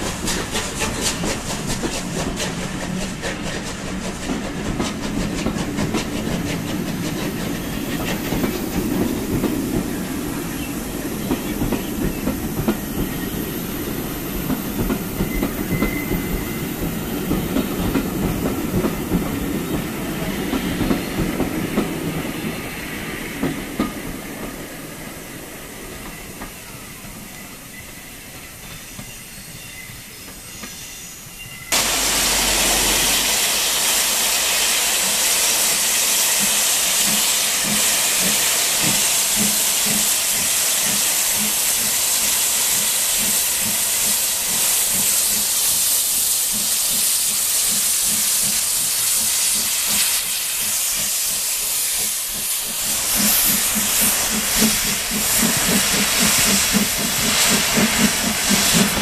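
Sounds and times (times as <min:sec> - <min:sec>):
steam locomotive chuffing: 0:00.0 - 0:29.4, 0:31.7 - 0:59.0
loud hiss of steam: 0:00.0 - 0:59.0
train running: 0:00.0 - 0:59.0.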